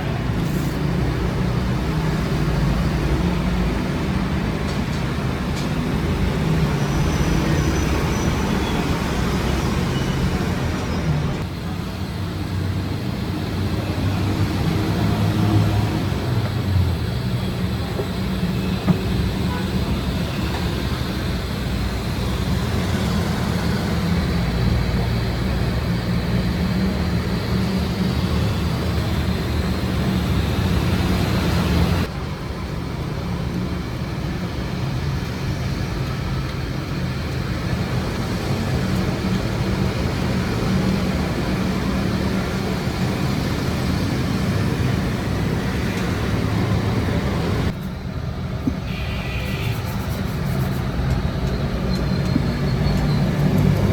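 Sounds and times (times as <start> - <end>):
workshop machinery humming: 0.0 - 53.9.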